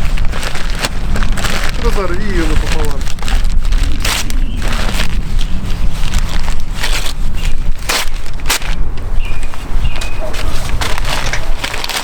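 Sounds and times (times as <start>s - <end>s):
short crackles and rustles: 0.0s - 12.0s
wind buffeting microphone: 0.0s - 12.0s.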